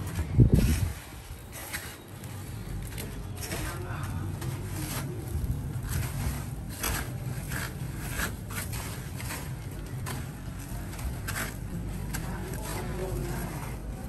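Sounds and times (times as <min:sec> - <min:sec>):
crumbs rustling against steel tray: 0:00.0 - 0:14.0.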